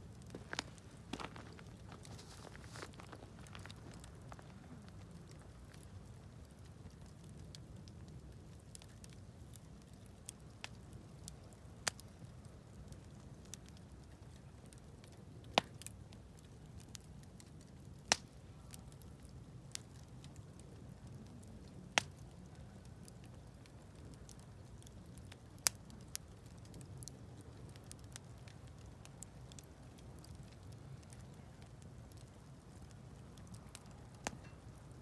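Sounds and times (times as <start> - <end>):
campfire crackling: 0.0 - 35.0
low fire rumble: 0.0 - 35.0.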